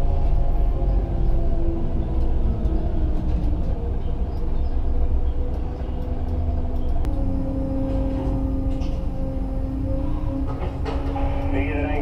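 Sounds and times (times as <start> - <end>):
crane machinery droning and whining: 0.0 - 12.0.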